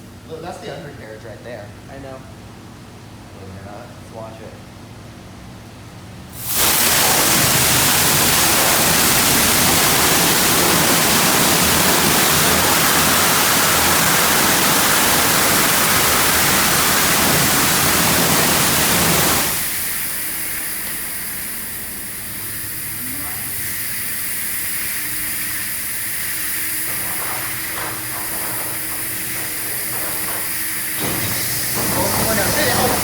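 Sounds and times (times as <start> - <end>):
quieter hiss: 6.3 - 33.0
water spray hissing: 6.4 - 33.0.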